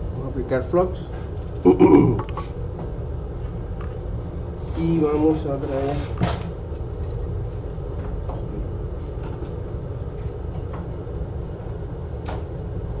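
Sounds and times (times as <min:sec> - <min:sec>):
low rumbling equipment hum: 0:00.0 - 0:13.0.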